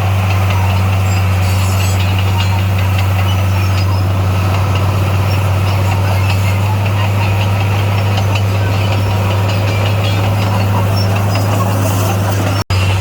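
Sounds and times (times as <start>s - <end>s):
heavy diesel engine humming: 0.0s - 13.0s.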